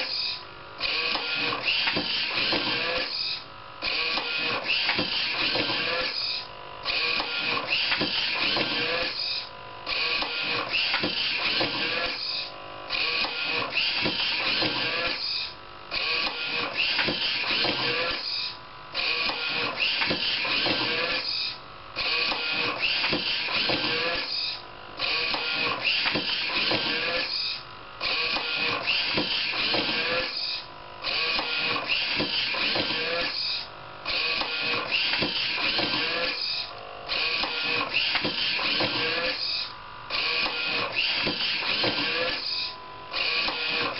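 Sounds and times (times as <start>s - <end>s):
book scanner motors and pages: 0.0s - 43.9s.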